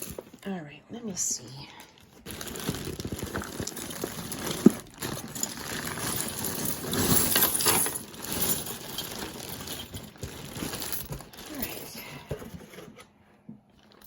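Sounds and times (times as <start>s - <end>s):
jewelry clinking and rattling: 0.0s - 0.5s, 1.6s - 12.9s.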